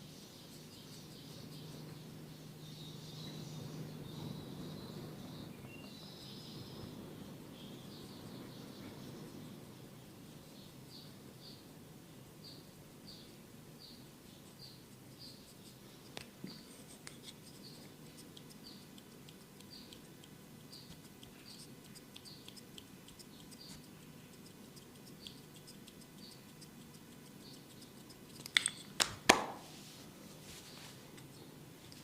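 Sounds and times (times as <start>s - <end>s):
small bird chirping: 0.0s - 11.7s, 12.4s - 28.9s.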